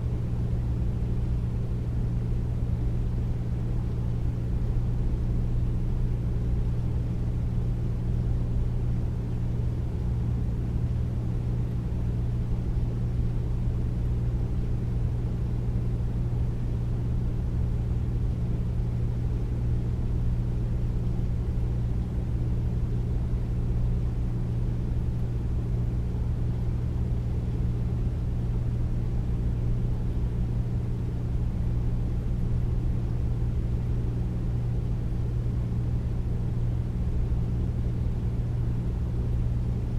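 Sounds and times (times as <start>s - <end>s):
air conditioner humming: 0.0s - 39.9s.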